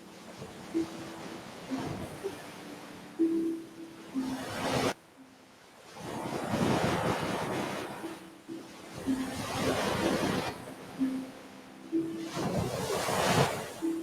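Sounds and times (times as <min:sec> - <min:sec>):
ocean waves washing in: 0:00.0 - 0:14.0.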